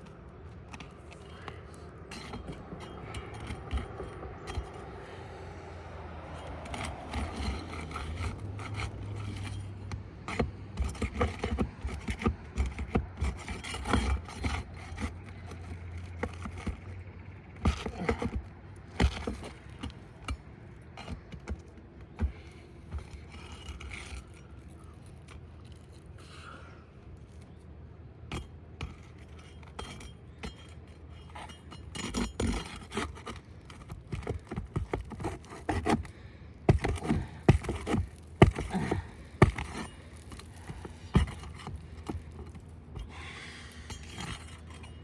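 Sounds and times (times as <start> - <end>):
hand tool scraping shingles: 0.4 - 26.6, 28.3 - 45.0.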